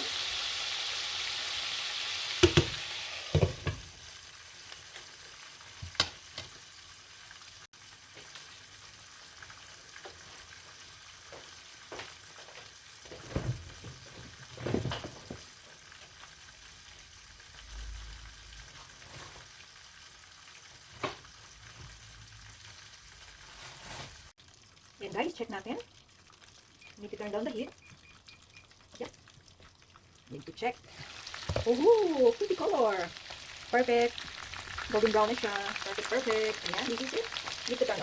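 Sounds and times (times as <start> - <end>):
chicken sizzling in hot oil: 0.0 - 38.0.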